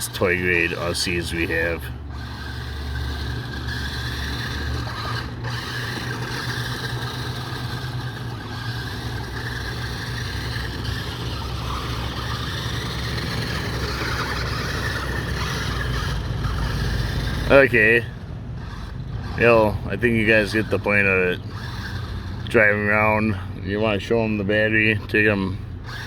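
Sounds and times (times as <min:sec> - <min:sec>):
toy truck motor humming: 0:00.0 - 0:26.0.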